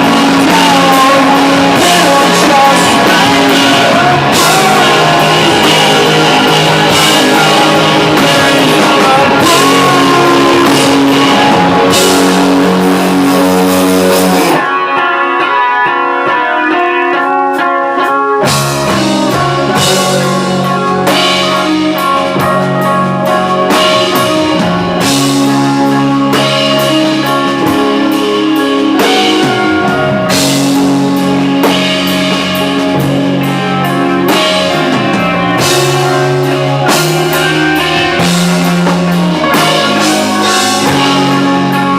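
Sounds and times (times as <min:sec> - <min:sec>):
lone guitar line: 0:00.0 - 0:41.9
rock band playing: 0:00.0 - 0:41.9.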